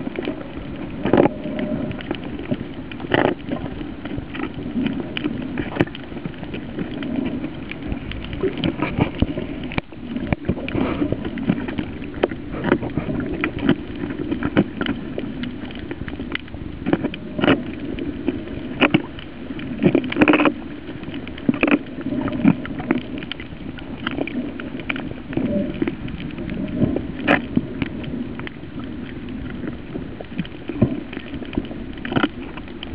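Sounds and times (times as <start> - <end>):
muffled underwater wash: 0.0 - 32.9.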